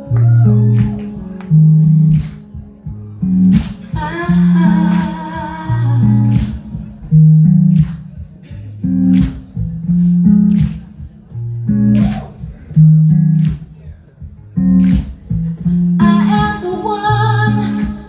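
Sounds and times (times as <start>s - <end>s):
bass line: 0.0s - 18.0s.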